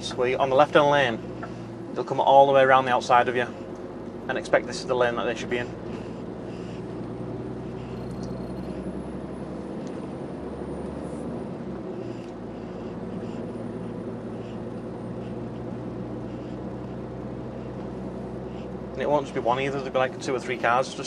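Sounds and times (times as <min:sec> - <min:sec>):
diesel engine and road noise: 0:00.0 - 0:21.0.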